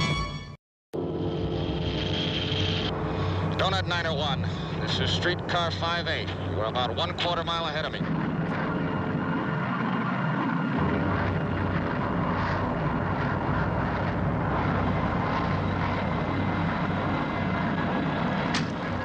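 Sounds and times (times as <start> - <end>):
aircraft engines droning: 1.0 - 19.0
deep rumble: 1.0 - 19.0.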